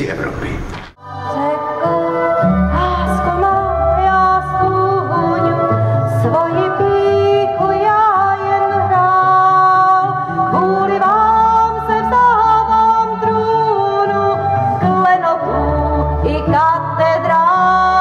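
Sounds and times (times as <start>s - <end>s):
woman singing: 1.0s - 18.0s.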